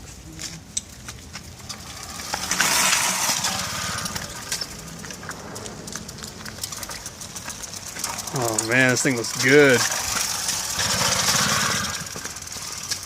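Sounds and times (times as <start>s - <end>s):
moped engine firing: 2.1s - 12.7s.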